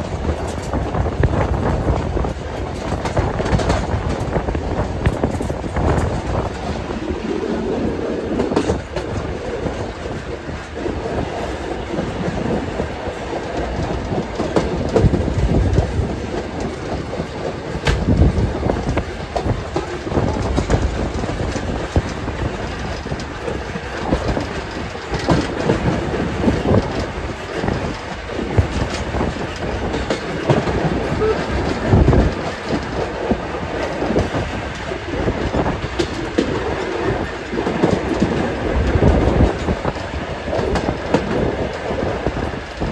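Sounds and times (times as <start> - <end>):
train wheels rumbling on rail: 0.0 - 42.9
wheels clicking over rail joints: 0.0 - 42.9.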